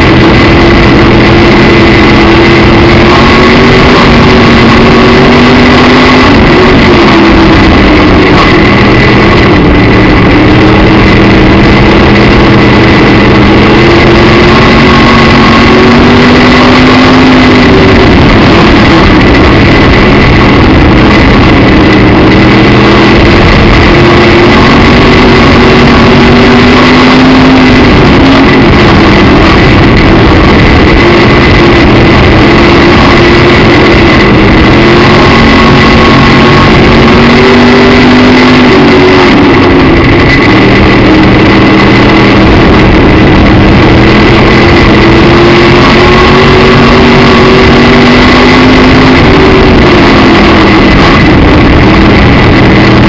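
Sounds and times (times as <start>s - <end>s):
race car engine running: 0.0s - 53.0s.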